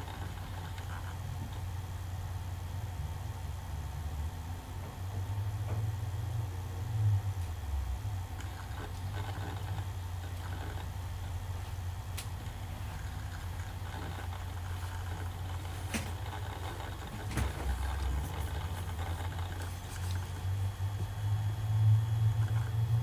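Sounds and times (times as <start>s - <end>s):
laptop humming: 0.0s - 23.0s.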